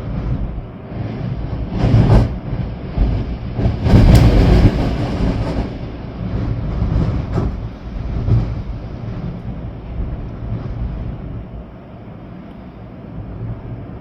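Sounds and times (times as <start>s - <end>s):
wind and rain hiss: 0.0s - 14.0s
wind gusts rumbling on microphone: 0.0s - 14.0s.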